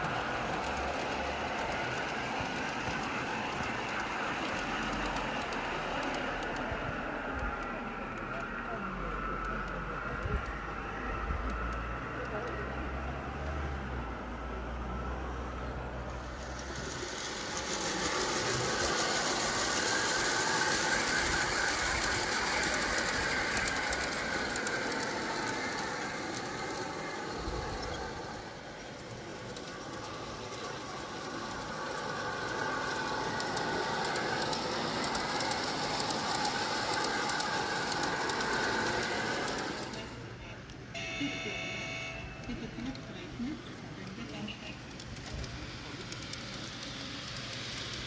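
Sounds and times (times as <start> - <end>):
model train wheels rattling on rails: 0.0 - 40.8, 41.7 - 48.0.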